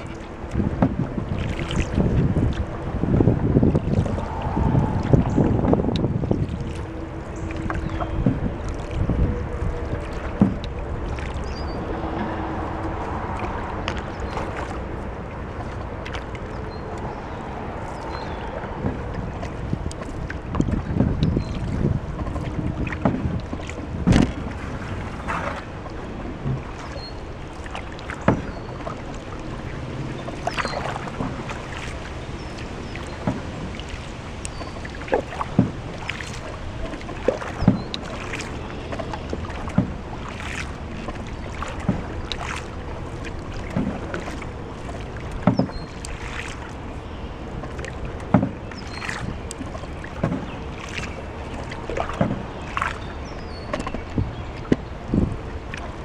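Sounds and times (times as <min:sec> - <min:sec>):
paddle splashing and knocking: 0:00.0 - 0:56.0.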